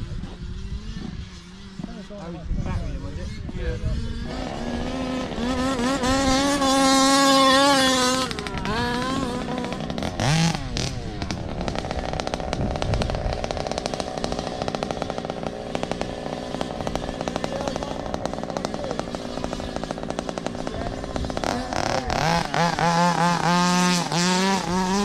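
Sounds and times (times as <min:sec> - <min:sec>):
electric motor whine: 0:00.0 - 0:25.0
small two-stroke engine running: 0:00.0 - 0:25.0
toy car passing quickly: 0:03.2 - 0:25.0.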